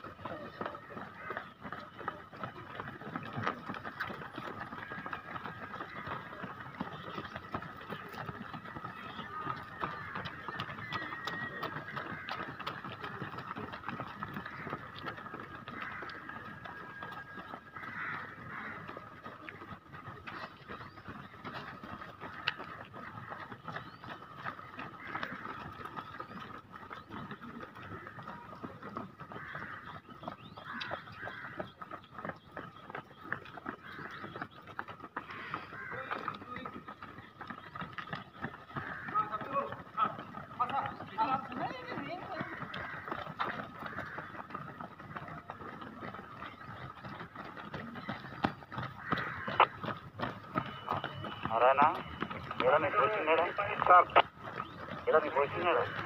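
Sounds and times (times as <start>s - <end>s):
background noise: 0.0s - 56.0s
outdoor background noise: 0.0s - 56.0s
runners' footsteps on asphalt: 0.0s - 56.0s.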